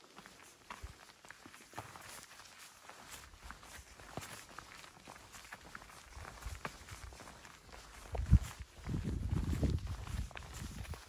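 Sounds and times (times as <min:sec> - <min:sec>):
footsteps on stony trail: 0:00.0 - 0:11.0.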